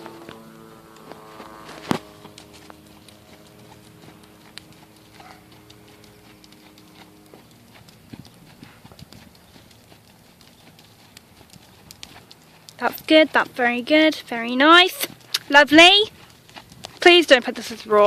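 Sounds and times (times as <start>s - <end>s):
pony hoofbeats on sand: 0.0s - 18.0s.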